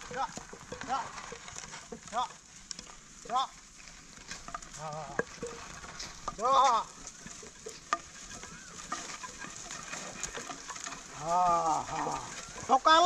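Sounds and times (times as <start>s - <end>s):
plough scraping through dry soil: 0.0s - 13.0s.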